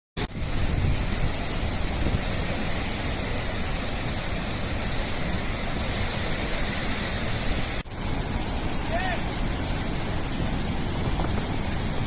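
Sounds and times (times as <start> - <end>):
floodwater rushing through spillway: 0.2 - 12.0.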